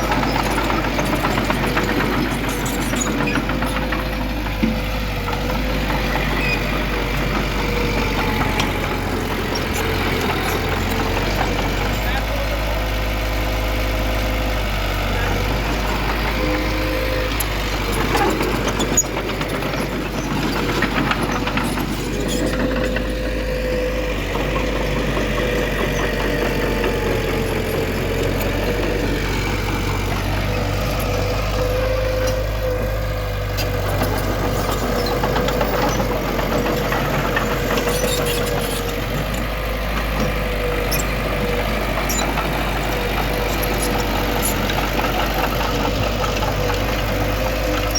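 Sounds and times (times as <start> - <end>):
heavy machinery diesel engine: 0.0 - 47.9.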